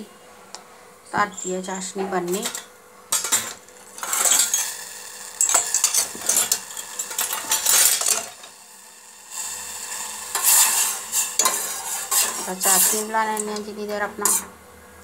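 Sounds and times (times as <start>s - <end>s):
metal spoon scraping saucepan: 1.3s - 8.6s, 9.4s - 14.5s.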